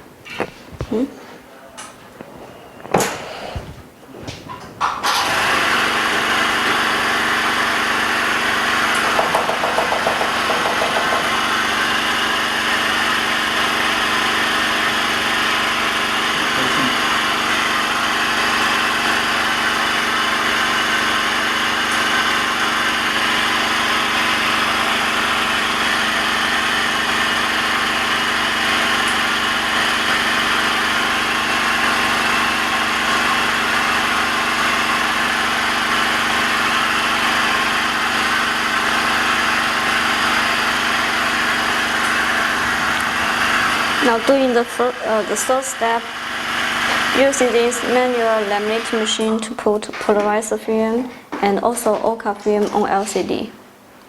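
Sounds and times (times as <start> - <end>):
machine motor humming: 0.0 - 50.3.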